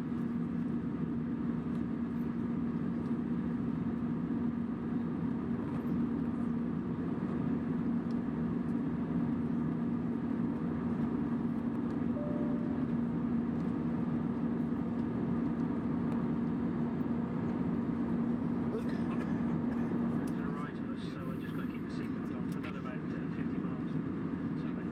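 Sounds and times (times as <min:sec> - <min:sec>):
aircraft cabin noise: 0:00.1 - 0:24.9.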